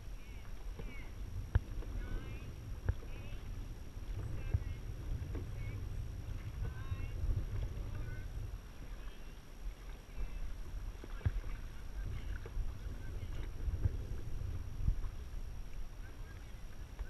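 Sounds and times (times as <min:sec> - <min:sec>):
paddles knocking and splashing: 0:00.0 - 0:17.0
water rushing past hull: 0:00.0 - 0:17.0.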